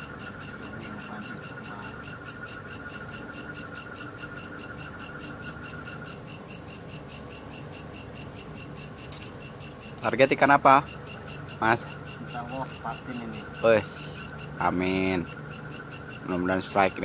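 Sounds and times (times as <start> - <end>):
crickets chirping: 0.0 - 17.0
low steady insect trill: 0.0 - 17.0.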